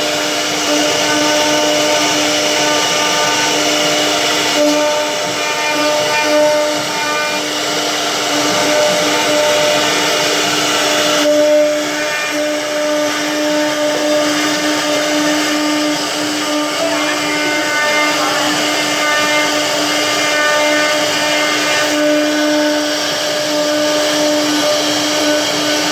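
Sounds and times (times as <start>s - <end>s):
cnc machine motor whine: 0.0s - 25.9s.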